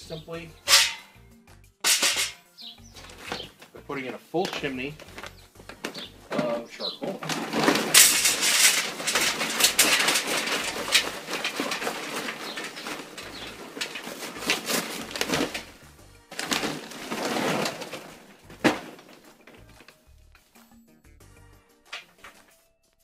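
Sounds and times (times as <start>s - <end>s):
charcoal clattering into metal: 0.6s - 1.2s, 1.8s - 2.4s, 3.0s - 20.0s, 21.9s - 22.5s.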